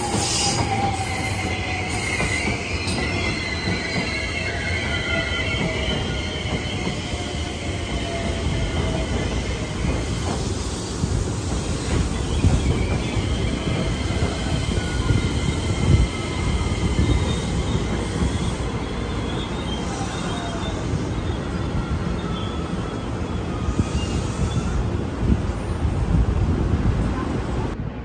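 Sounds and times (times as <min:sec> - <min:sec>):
high wheel squealing: 0:00.0 - 0:25.7
train wheels rumbling on rail: 0:00.0 - 0:28.0.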